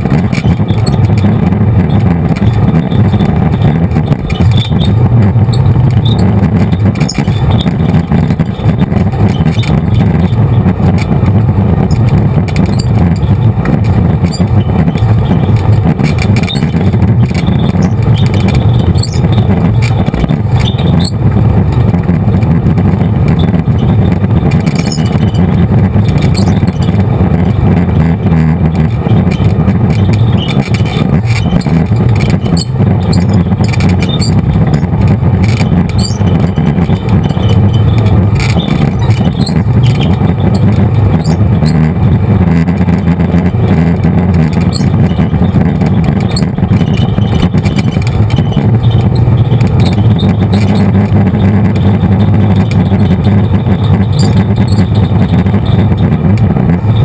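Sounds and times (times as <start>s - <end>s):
off-road vehicle engine drone: 0.0s - 57.0s
rattles and clicks over bumps: 0.0s - 57.0s.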